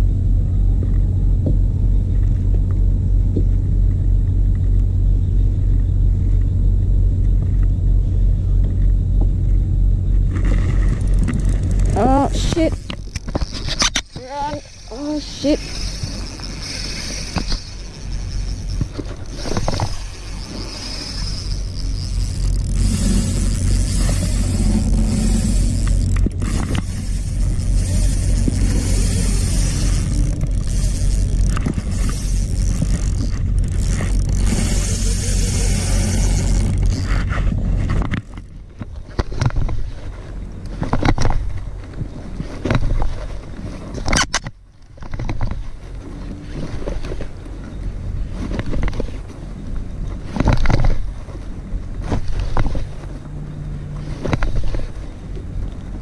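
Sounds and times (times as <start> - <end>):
low wind rumble: 0.0 - 56.0.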